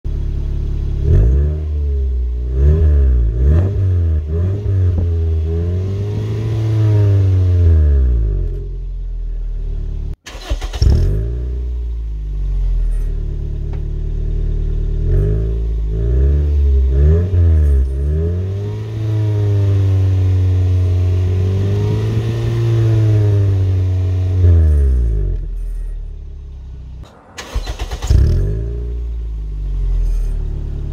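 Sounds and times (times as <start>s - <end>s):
car engine revving: 0.3s - 9.0s, 10.3s - 25.9s, 26.6s - 30.9s.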